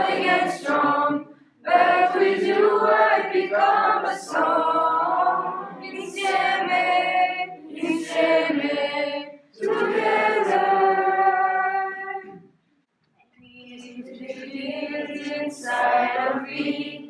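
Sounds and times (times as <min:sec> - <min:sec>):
choir of teenagers singing: 0:00.0 - 0:12.5, 0:13.7 - 0:17.0.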